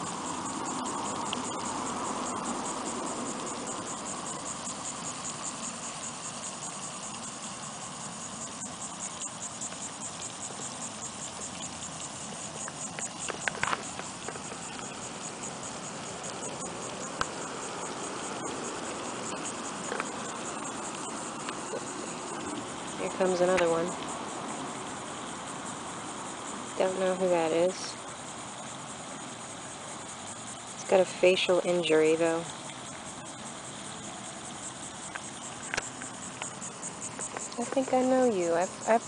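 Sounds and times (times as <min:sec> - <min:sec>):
insects trilling: 0:00.0 - 0:39.0
outdoor ambience: 0:00.0 - 0:39.0.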